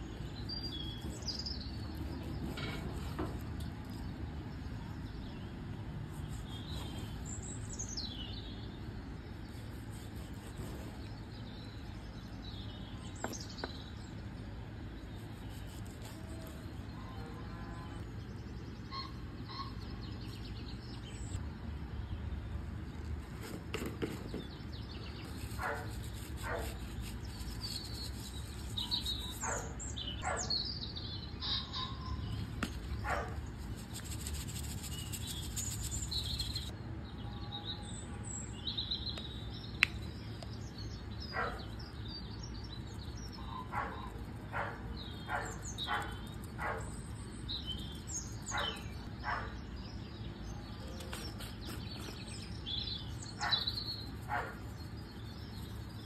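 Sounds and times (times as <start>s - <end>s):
birds chirping: 0.0s - 56.0s
low outdoor rumble: 0.0s - 56.0s.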